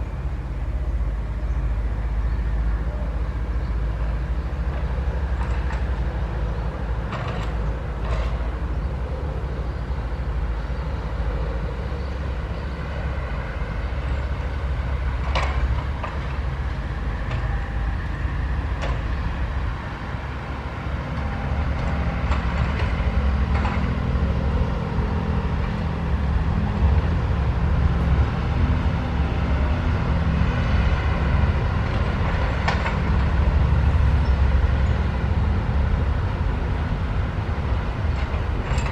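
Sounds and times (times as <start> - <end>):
excavator diesel engine working: 0.0 - 38.9.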